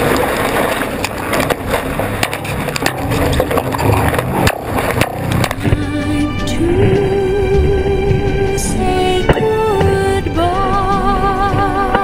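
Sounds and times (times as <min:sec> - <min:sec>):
water knocking on hull: 0:00.0 - 0:12.0.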